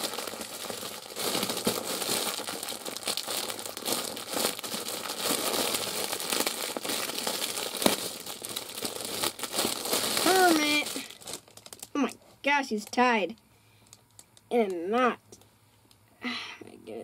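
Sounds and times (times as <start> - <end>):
plastic wrapping crinkling: 0.0 - 14.8.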